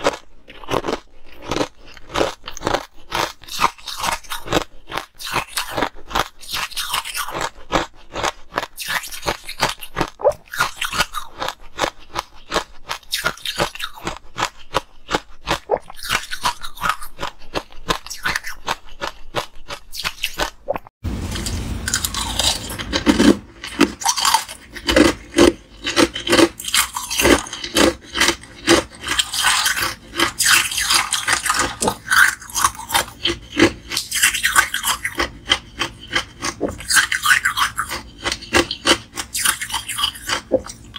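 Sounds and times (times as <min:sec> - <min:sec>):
ice crunching in mouth: 0:00.0 - 0:20.9, 0:21.9 - 0:40.9.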